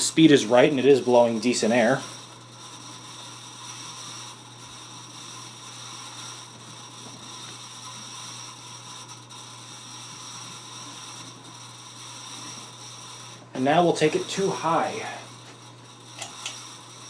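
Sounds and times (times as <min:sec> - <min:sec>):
ceiling fan bearings grinding: 0:00.0 - 0:17.0
fan motor hum: 0:00.0 - 0:17.0.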